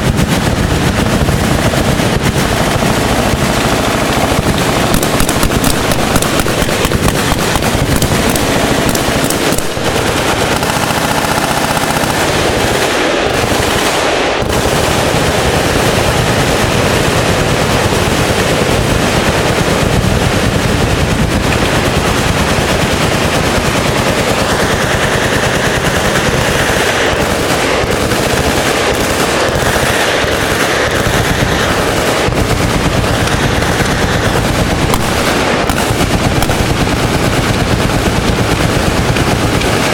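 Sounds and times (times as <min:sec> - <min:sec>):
machine gun fire: 0:00.0 - 0:39.9.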